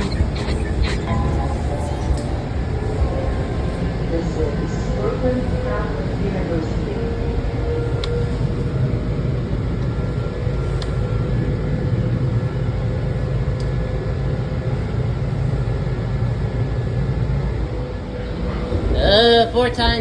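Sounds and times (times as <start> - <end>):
railcar rumbling: 0.0 - 20.0.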